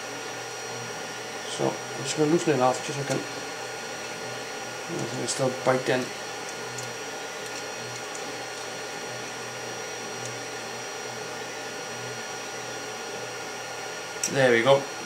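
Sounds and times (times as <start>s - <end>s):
mechanical hum with high whine: 0.0s - 15.0s.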